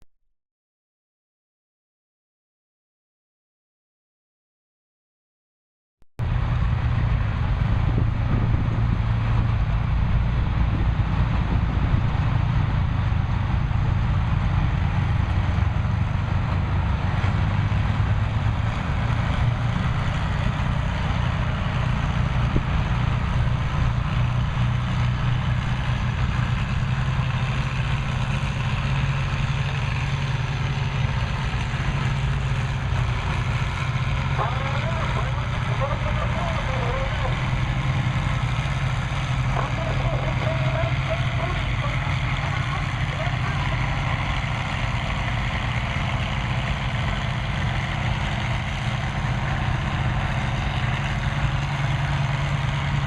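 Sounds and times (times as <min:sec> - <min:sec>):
tractor engine running steadily: 0:06.2 - 0:53.0.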